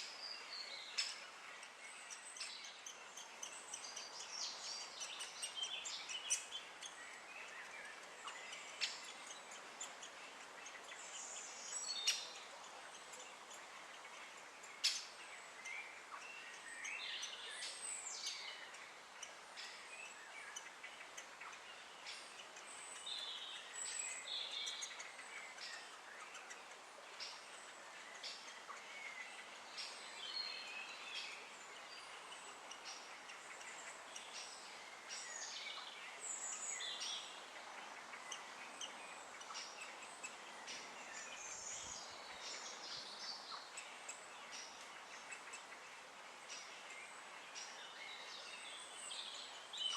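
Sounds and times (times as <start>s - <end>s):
birds calling and singing: 0.0s - 49.9s
steady background hiss: 0.0s - 49.9s.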